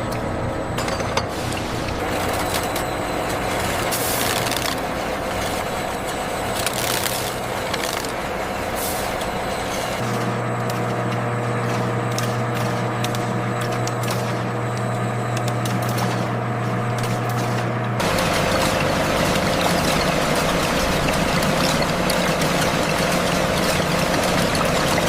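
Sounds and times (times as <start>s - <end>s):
factory machinery rumbling: 0.0s - 25.0s.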